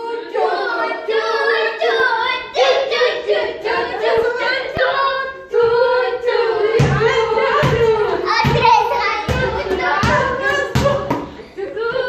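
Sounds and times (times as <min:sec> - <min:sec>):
women and children singing: 0:00.0 - 0:12.0.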